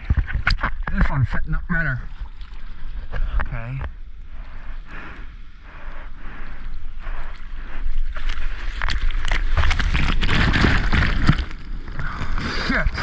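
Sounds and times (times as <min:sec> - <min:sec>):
arms paddling through water: 0:01.9 - 0:13.0.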